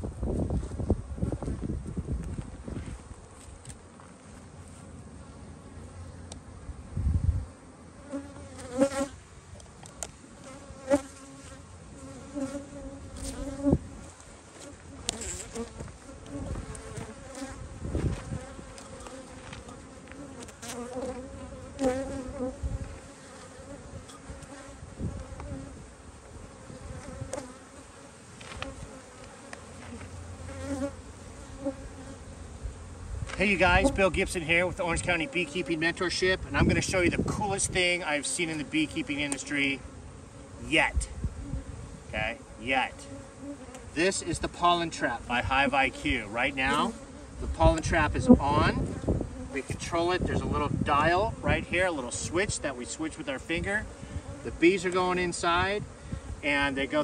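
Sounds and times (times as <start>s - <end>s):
bees buzzing: 7.5s - 57.0s.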